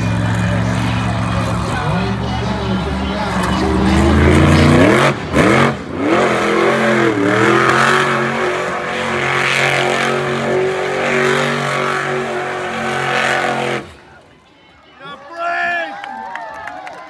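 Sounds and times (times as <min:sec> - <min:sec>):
truck engine revving: 0:00.0 - 0:14.1.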